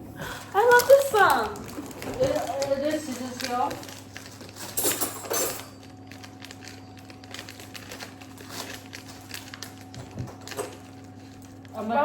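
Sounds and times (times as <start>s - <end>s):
items handled on counter: 0.3s - 11.8s.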